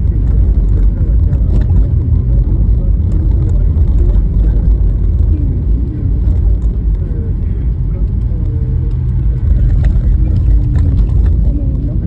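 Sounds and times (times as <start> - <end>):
tyre and road rumble: 0.0 - 12.0.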